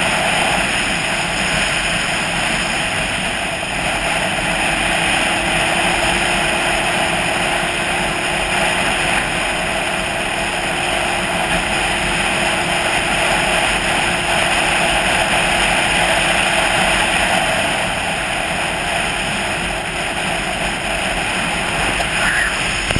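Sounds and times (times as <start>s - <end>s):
vehicle engine running: 0.0s - 22.9s
wind and road noise: 0.0s - 22.9s.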